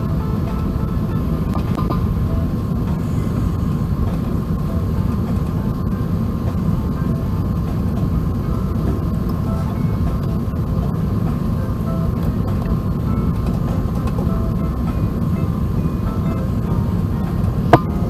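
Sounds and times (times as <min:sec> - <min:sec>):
airplane cabin rumble: 0:00.0 - 0:18.0.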